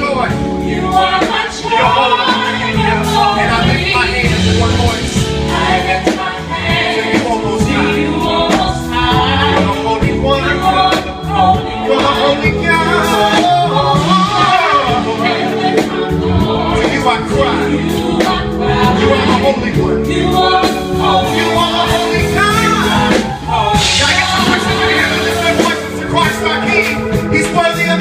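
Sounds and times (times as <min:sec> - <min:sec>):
bass notes: 0:00.0 - 0:28.0
man singing lead: 0:00.0 - 0:28.0
backing singers: 0:00.2 - 0:28.0.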